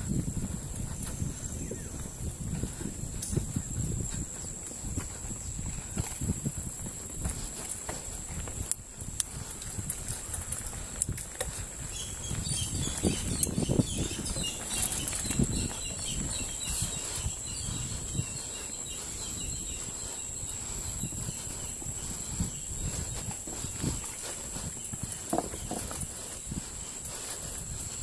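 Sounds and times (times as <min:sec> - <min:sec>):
bike rattling on dirt trail: 0:00.0 - 0:28.0.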